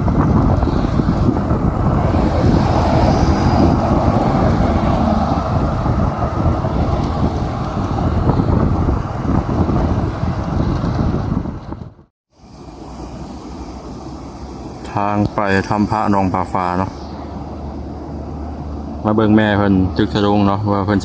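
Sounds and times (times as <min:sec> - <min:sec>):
wind buffeting microphone: 0:00.0 - 0:20.3
vehicle running noise: 0:00.0 - 0:21.0.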